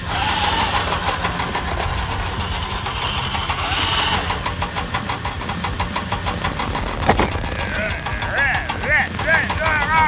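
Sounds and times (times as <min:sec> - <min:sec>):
fast ticking rattle: 0:00.0 - 0:10.0
vehicle engine idling: 0:00.0 - 0:10.0.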